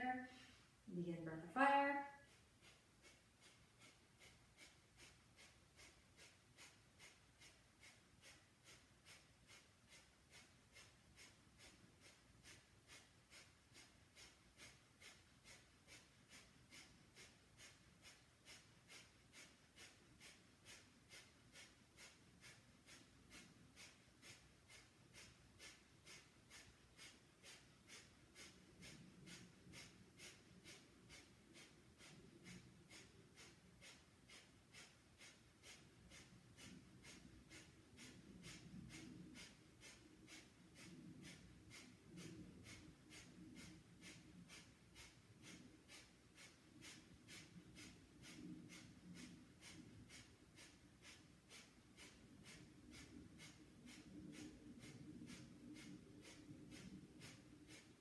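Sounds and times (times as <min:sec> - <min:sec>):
rapid forceful nasal exhalations: 0:02.2 - 0:58.0.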